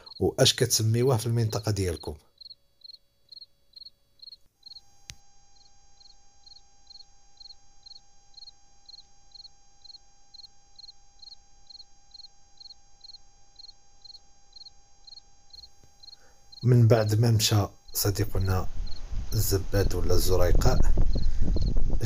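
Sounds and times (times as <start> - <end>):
cricket chirping: 0.0 - 19.5, 20.4 - 22.0
faint steady hum: 0.0 - 22.0.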